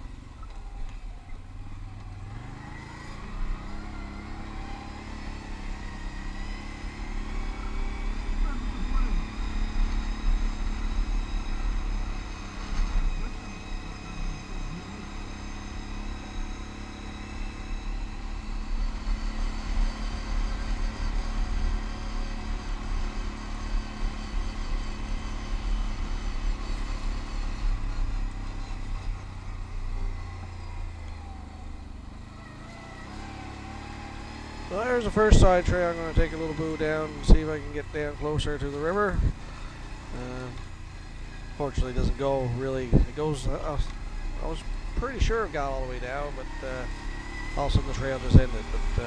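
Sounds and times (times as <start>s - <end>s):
quad bike engine running: 0.0s - 49.0s.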